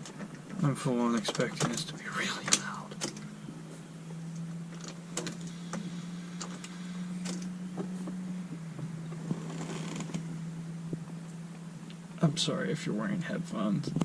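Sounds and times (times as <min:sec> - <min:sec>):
electric fuel pump humming: 0:00.0 - 0:12.4.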